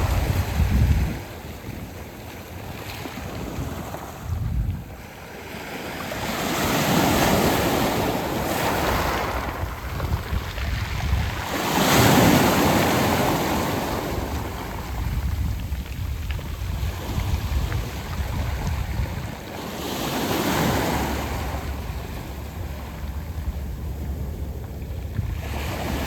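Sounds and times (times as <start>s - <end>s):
waves breaking on pebble beach: 0.0s - 23.8s.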